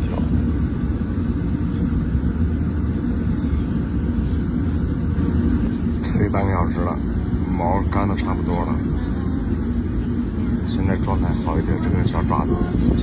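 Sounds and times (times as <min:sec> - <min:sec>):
car engine running: 0:00.0 - 0:13.0
heater blowing air: 0:00.0 - 0:13.0.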